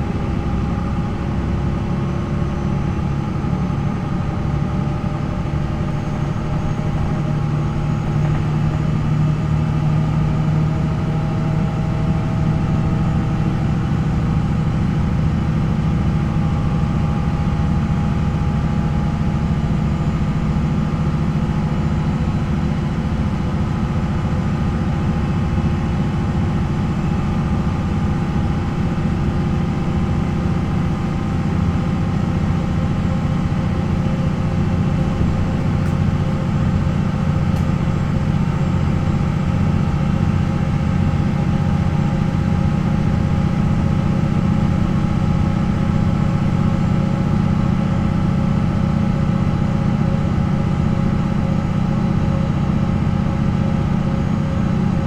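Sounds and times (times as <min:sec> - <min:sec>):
diesel bus engine running: 0:00.0 - 0:55.0.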